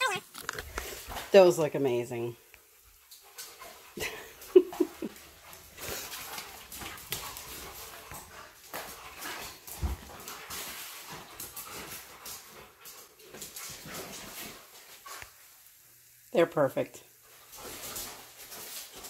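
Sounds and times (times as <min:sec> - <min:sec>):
dogs scuffling: 0:00.0 - 0:15.5, 0:17.2 - 0:19.0.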